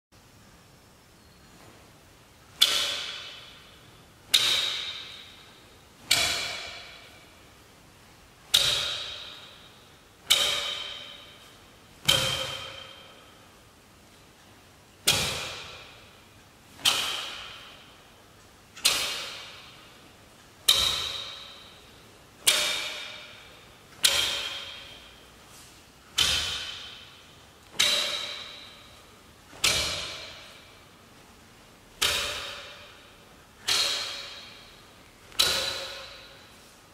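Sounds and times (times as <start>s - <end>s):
sharp cracks echoing in hall: 2.1s - 36.9s.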